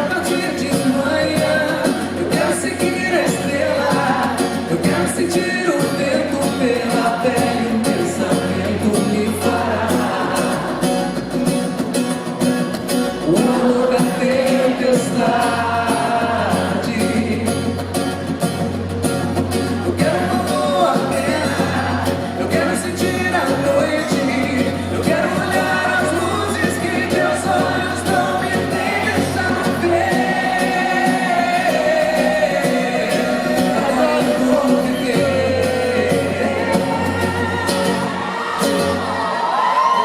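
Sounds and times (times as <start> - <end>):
live pop band with singing: 0.0 - 40.0.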